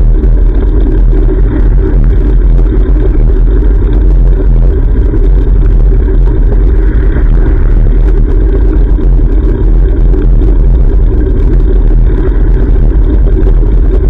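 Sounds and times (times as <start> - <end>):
wind buffeting camera microphone: 0.0 - 14.0.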